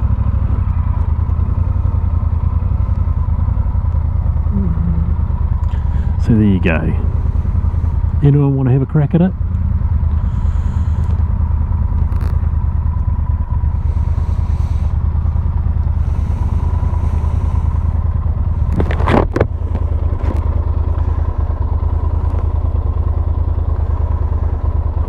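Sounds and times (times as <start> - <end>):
motorcycle engine running steadily: 0.0 - 25.0.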